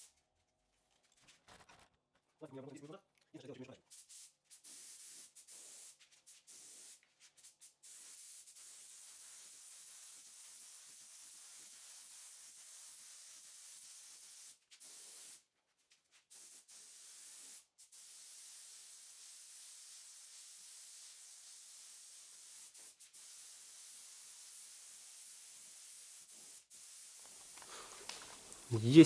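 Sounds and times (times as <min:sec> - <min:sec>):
spray gun air hissing: 0:03.9 - 0:15.4, 0:16.3 - 0:28.9.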